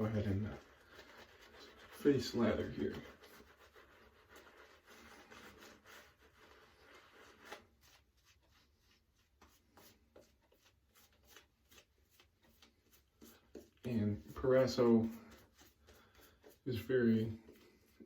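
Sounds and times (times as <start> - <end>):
shaving brush rubbing lather: 0.0 - 18.0.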